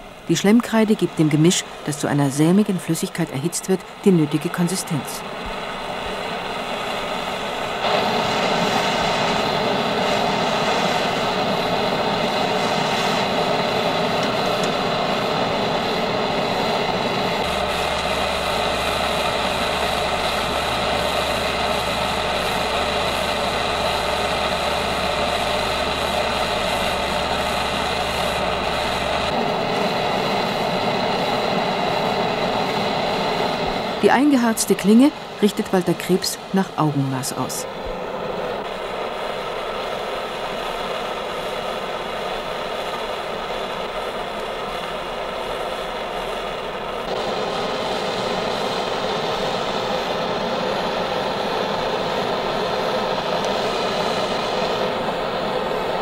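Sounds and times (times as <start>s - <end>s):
machine droning: 0.0s - 56.0s.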